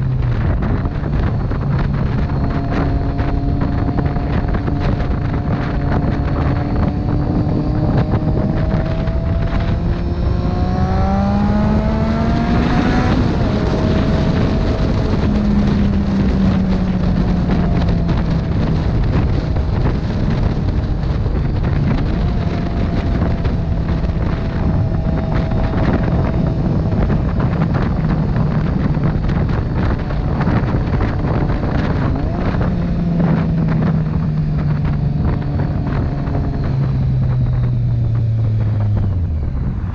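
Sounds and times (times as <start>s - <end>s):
motorcycle engine revving: 0.0s - 39.9s
wind noise on microphone: 0.0s - 39.9s.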